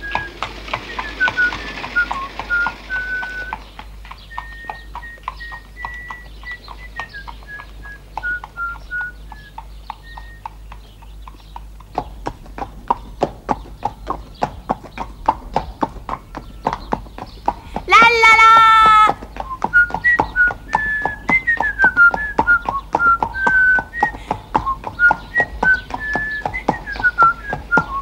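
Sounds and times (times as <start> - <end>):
horse hooves on pavement: 0.0 - 28.0.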